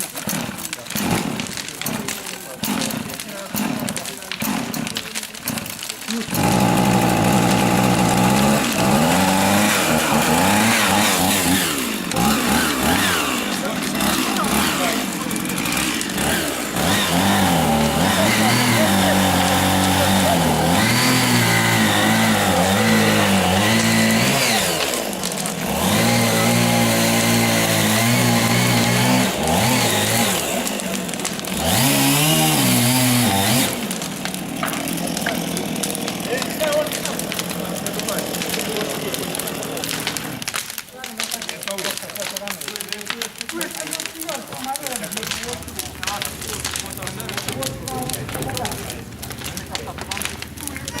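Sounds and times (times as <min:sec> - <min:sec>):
engine revving: 0:00.1 - 0:41.4, 0:45.0 - 0:51.0.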